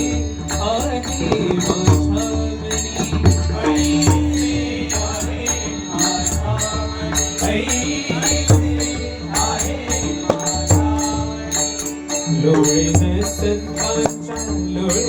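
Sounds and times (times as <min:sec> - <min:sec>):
small hand cymbals: 0:00.0 - 0:15.0
drum strokes: 0:00.6 - 0:14.4.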